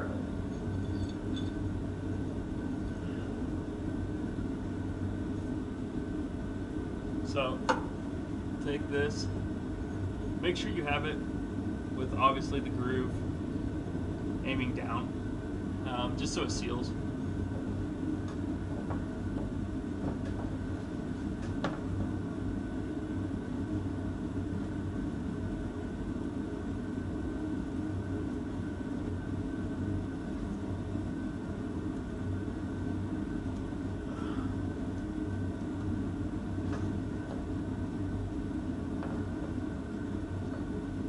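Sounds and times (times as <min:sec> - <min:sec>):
low mechanical rumble: 0:00.0 - 0:41.0.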